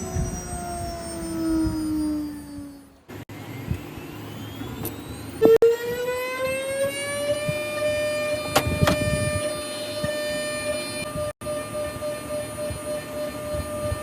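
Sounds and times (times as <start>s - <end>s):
spindle motor whining: 0.0s - 14.0s.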